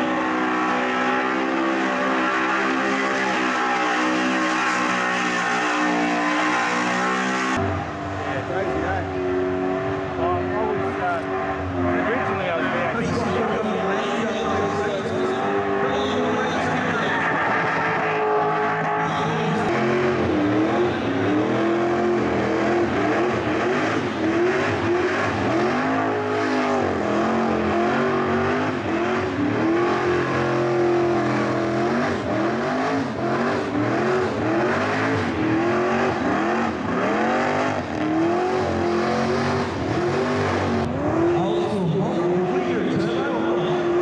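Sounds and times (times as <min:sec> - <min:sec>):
car engines revving: 0:00.0 - 0:44.0
tyres screeching on asphalt: 0:00.0 - 0:44.0.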